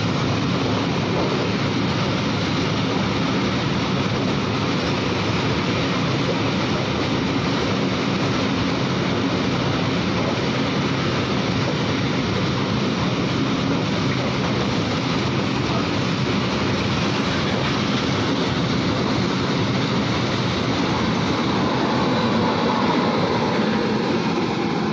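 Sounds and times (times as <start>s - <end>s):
locomotive passing: 0.0s - 24.9s
train wheels clattering on rails: 0.0s - 24.9s.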